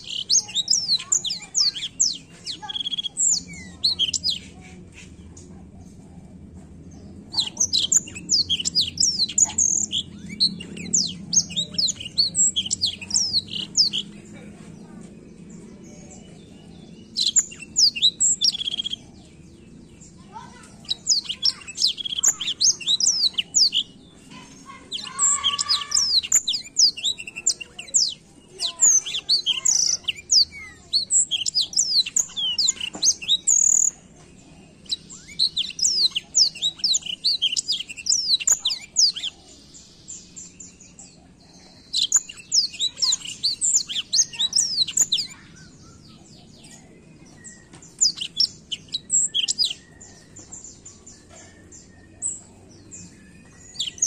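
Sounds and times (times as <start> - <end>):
canary twittering and trilling: 0.0 - 54.0.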